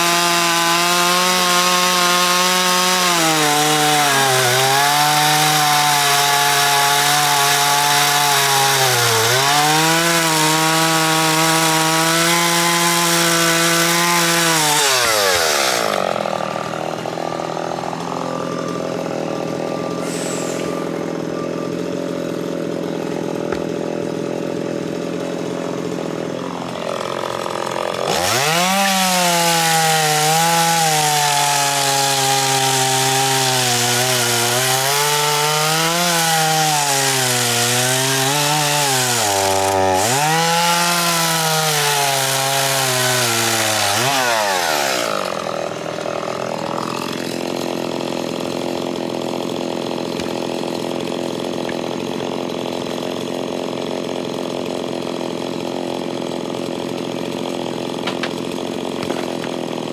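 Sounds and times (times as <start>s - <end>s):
chainsaw cutting into log: 0.0s - 59.9s
chainsaw idling and revving: 0.0s - 59.9s.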